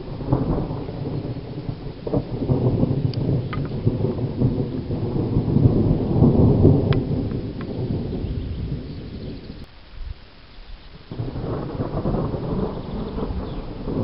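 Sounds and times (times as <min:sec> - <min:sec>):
rolling rumble of thunder: 0:00.0 - 0:10.2, 0:10.9 - 0:14.0.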